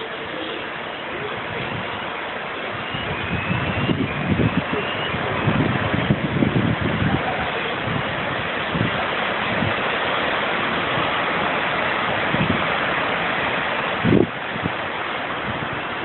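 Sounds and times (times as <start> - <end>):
heavy rain and rushing water: 0.0 - 16.0.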